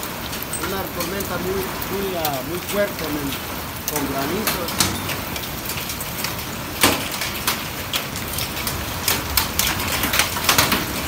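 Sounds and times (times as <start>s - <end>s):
hailstones striking: 0.0s - 11.0s
heavy rain: 0.0s - 11.0s.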